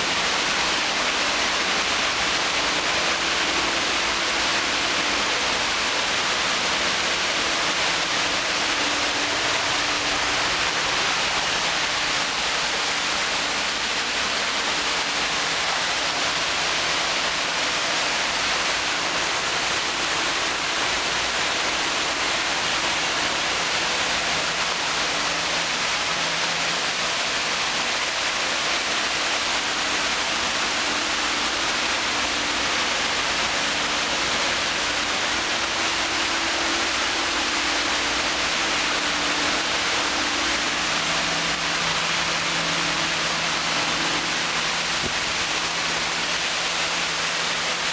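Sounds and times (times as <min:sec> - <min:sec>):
waterfall pouring and splashing: 0:00.0 - 0:47.9.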